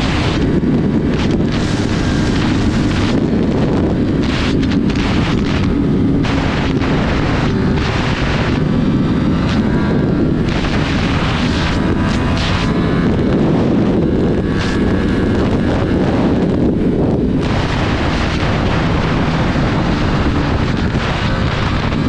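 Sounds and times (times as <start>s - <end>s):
faint motorcycle engine running: 0.0s - 22.0s
wind buffeting microphone: 0.0s - 22.0s.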